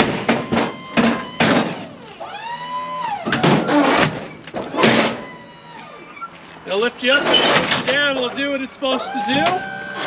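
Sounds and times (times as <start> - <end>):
liftgate clanking and rattling: 0.0 - 8.4, 9.0 - 10.0
hydraulic pump motor whining: 0.0 - 10.0.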